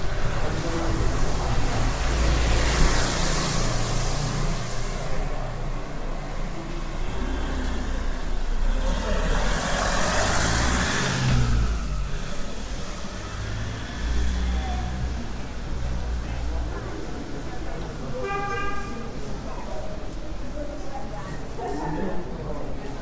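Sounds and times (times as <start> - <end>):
vehicles driving past: 0.0 - 23.0.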